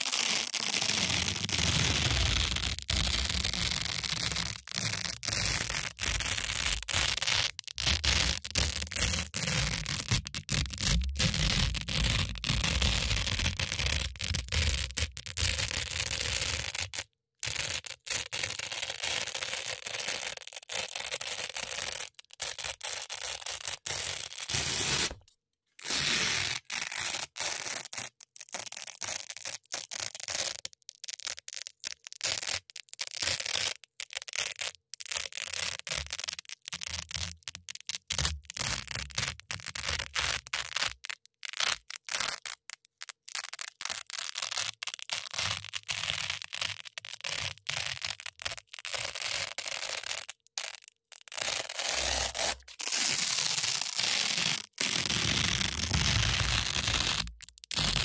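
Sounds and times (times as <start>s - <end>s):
velcro ripping: 0.0s - 58.0s.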